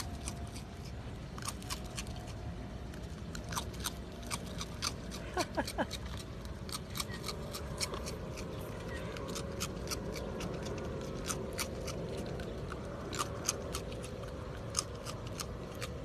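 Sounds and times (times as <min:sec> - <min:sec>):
raccoon crunching cereal: 0:00.0 - 0:16.0.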